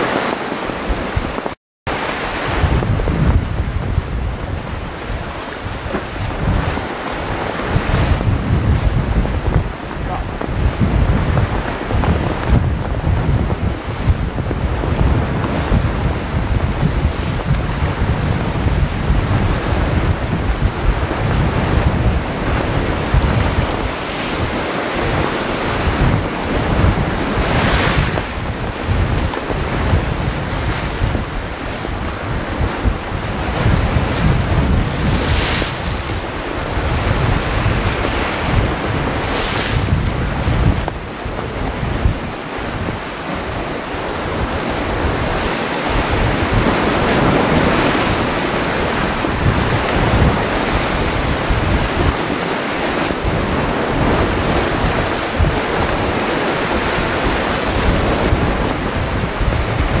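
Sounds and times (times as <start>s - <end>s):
waves breaking against rocks: 0.0s - 60.0s
wind rumbling on microphone: 0.0s - 60.0s.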